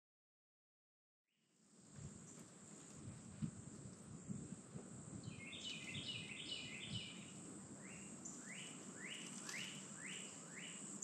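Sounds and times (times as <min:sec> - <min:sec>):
songbird singing: 0:01.4 - 0:11.0
high insect drone: 0:01.5 - 0:11.0.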